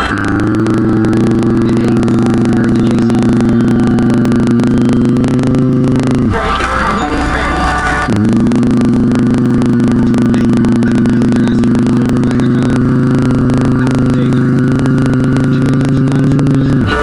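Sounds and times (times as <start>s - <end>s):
person humming low note: 0.0s - 17.0s.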